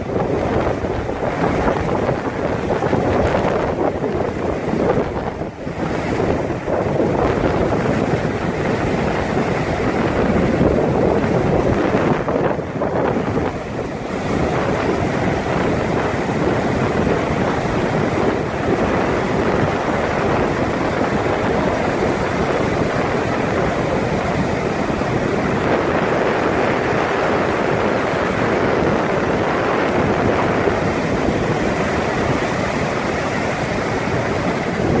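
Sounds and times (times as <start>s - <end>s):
ocean waves breaking: 0.0s - 35.0s
wind buffeting microphone: 0.0s - 35.0s.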